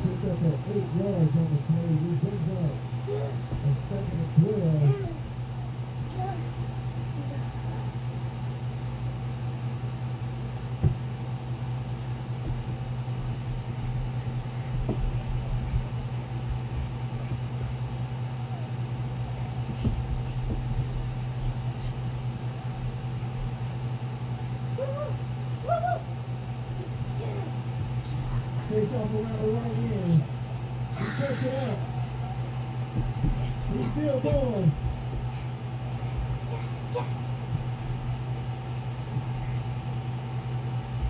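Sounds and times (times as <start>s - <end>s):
low hum: 0.0s - 41.0s.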